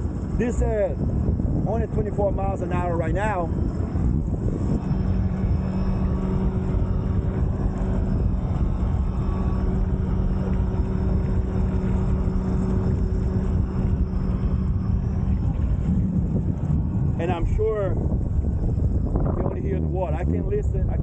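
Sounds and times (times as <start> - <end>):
steady low hum: 0.0 - 21.0
wind and water rushing: 0.0 - 21.0.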